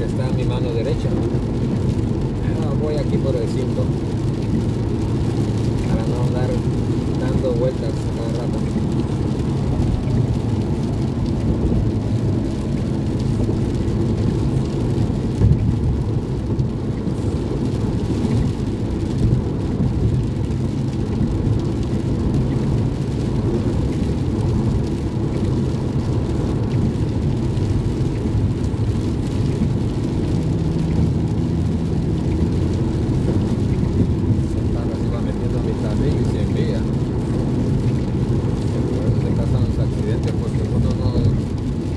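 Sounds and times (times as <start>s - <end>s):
car engine and tyres on wet road: 0.0s - 41.9s
rain and spray hissing: 0.0s - 41.9s.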